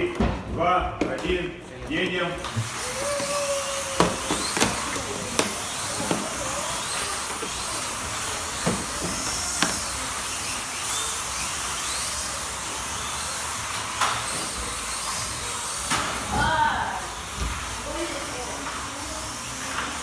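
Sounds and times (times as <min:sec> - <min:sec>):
slot car motors whining: 0:02.4 - 0:20.0.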